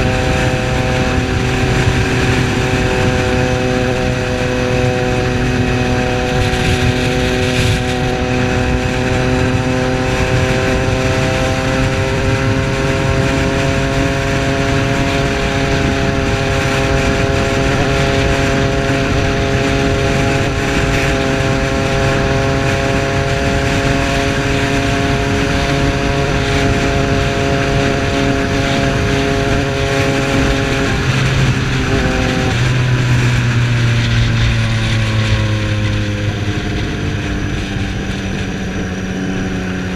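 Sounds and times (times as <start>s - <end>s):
motorcycle engine running: 0.0s - 39.9s
rush of noise: 0.0s - 39.9s.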